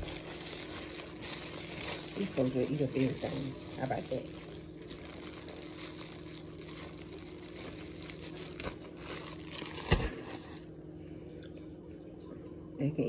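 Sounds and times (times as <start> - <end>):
plastic bread bag crinkling: 0.0 - 10.9.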